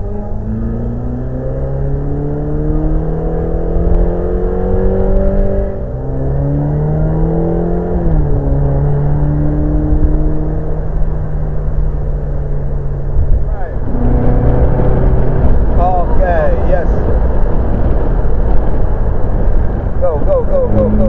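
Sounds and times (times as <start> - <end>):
car engine accelerating: 0.0 - 21.0
wind rumble on microphone: 0.0 - 21.0.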